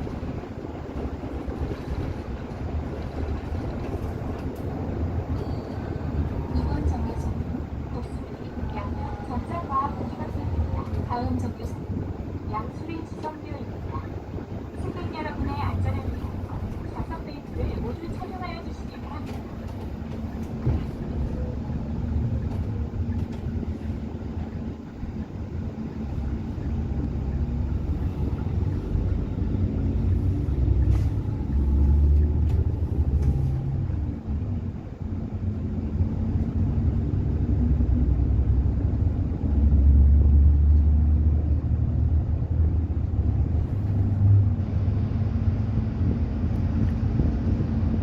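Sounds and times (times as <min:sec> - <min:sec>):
bus engine drone: 0:00.0 - 0:48.0
road rumble: 0:00.0 - 0:48.0.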